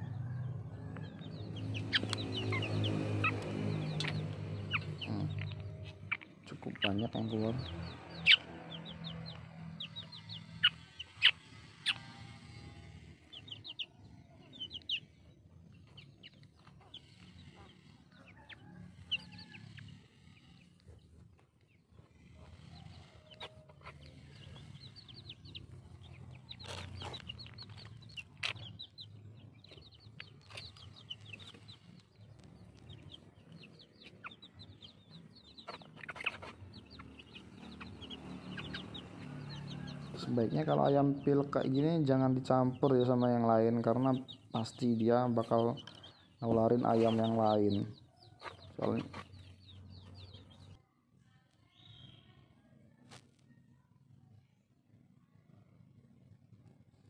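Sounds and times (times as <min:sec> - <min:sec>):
chickens clucking: 0:00.0 - 0:50.8.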